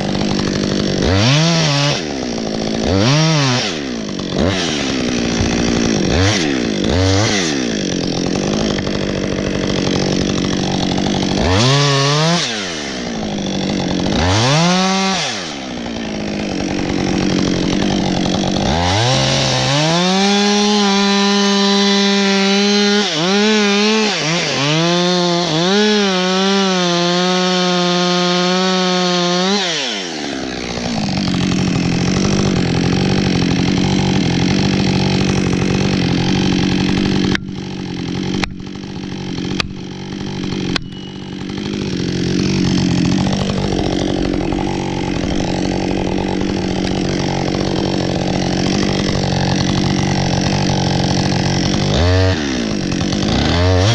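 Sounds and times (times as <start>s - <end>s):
chainsaw cutting wood: 0.0s - 53.9s
chainsaw revving: 0.0s - 53.9s.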